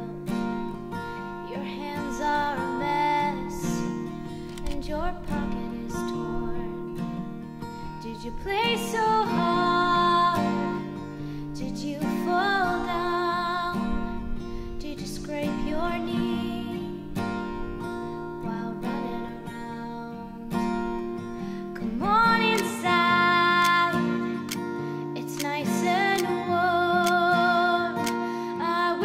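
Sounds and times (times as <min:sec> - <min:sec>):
person singing with vibrato: 0:00.0 - 0:07.0, 0:08.0 - 0:14.0, 0:14.8 - 0:17.2, 0:17.8 - 0:29.0
strummed acoustic guitar: 0:00.0 - 0:29.0.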